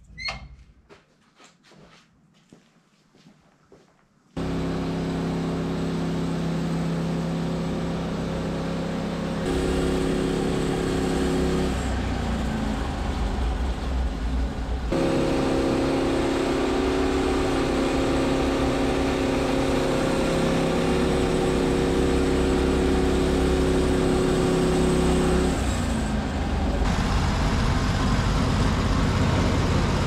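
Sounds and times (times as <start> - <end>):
sawmill engine running: 4.4 - 30.0.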